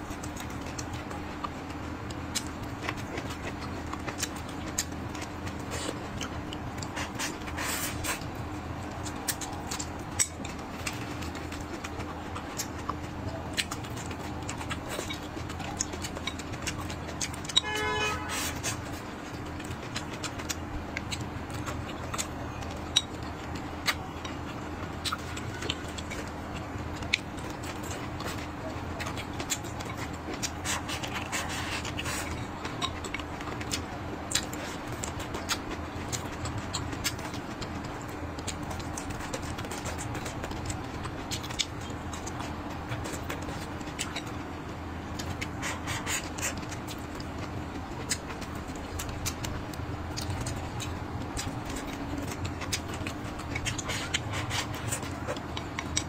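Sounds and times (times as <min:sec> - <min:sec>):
person chewing wetly: 0:00.0 - 0:56.0
steady low hum: 0:00.0 - 0:56.0.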